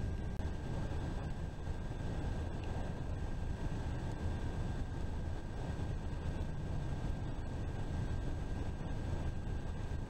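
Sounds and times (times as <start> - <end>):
faint high whine: 0.0 - 10.0
road and engine rumble: 0.0 - 10.0.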